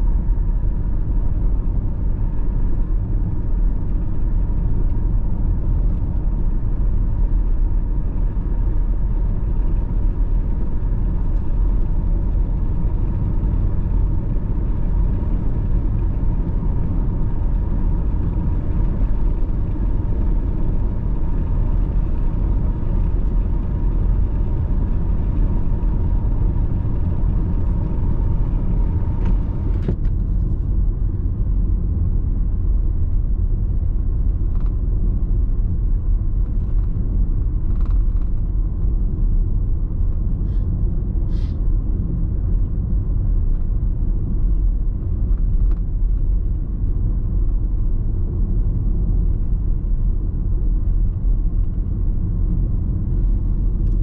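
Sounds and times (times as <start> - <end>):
car driving on paved road: 0.0 - 54.0
faint steady whine: 0.0 - 54.0.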